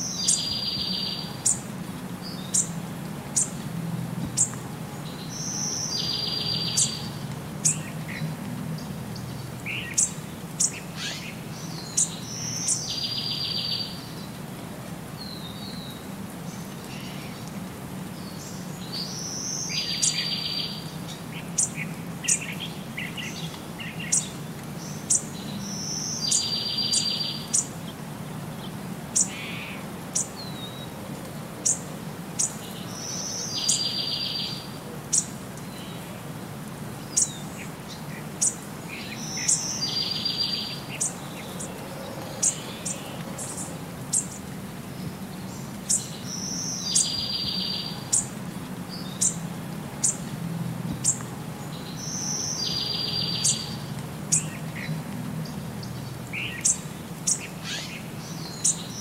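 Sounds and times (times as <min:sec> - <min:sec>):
birds chirping: 0:00.0 - 0:03.6, 0:04.3 - 0:14.4, 0:18.1 - 0:31.0, 0:31.6 - 0:36.1, 0:37.0 - 0:50.3, 0:50.9 - 0:59.0.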